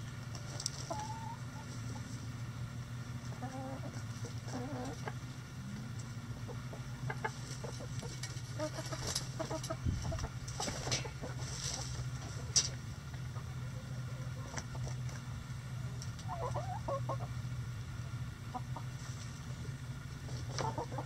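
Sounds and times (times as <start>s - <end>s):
hens pecking and scratching litter: 0.0s - 17.4s, 18.5s - 21.0s
steady low hum: 0.0s - 21.0s
hens clucking softly: 0.3s - 2.4s, 3.2s - 21.0s.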